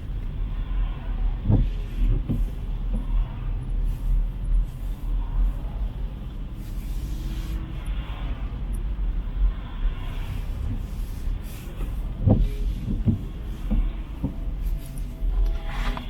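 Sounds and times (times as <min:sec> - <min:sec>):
low traffic rumble: 0:00.0 - 0:16.0
vehicles passing: 0:00.0 - 0:16.0.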